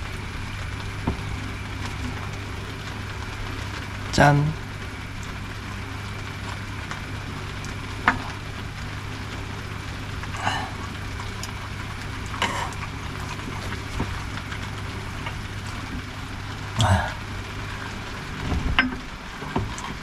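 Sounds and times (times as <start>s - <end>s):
low hum: 0.0s - 20.0s
steady rain hiss: 0.0s - 20.0s.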